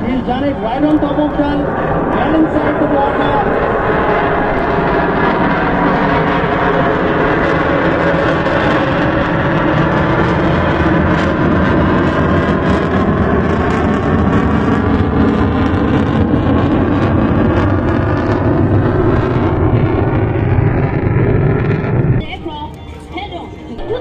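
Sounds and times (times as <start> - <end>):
fighter jet roar: 0.0 - 22.4.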